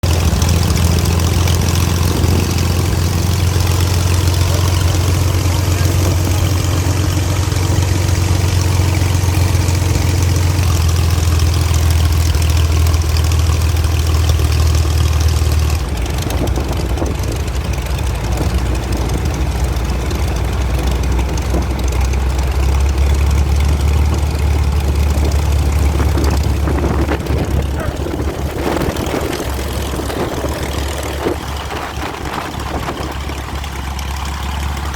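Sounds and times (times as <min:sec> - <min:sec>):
propeller aircraft engine drone: 0:00.0 - 0:34.9.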